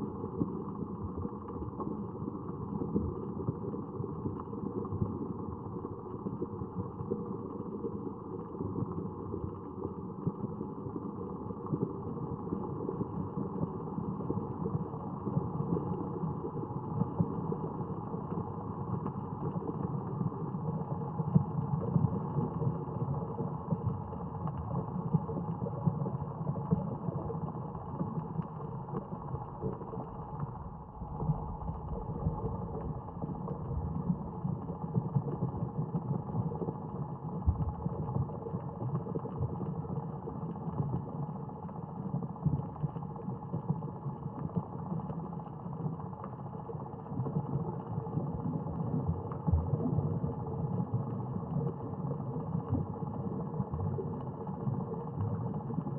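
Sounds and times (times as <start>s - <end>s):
low churning ambient drone: 0.0s - 55.9s.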